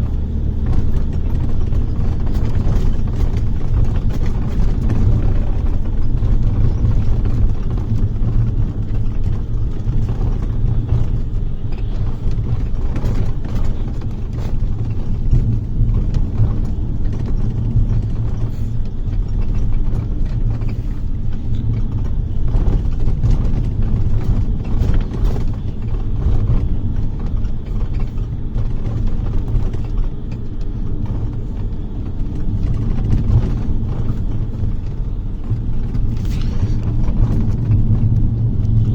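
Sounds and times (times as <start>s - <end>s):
bus engine and road rumble: 0.0s - 38.9s
faint rattles: 0.0s - 38.9s.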